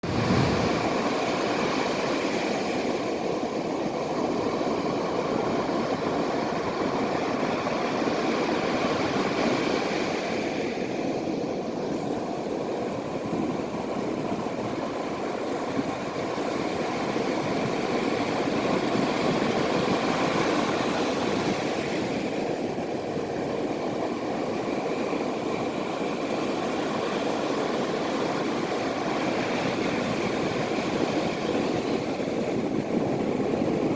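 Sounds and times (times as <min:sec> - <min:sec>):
waves breaking: 0:00.0 - 0:33.9.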